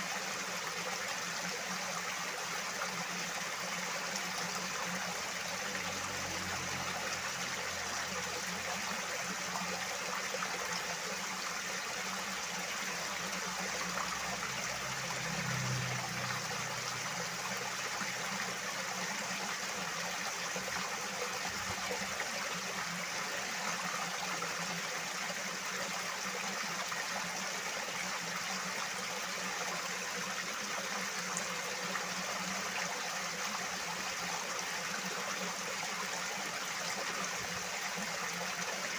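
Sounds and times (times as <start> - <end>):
stream rushing water: 0.0 - 38.9.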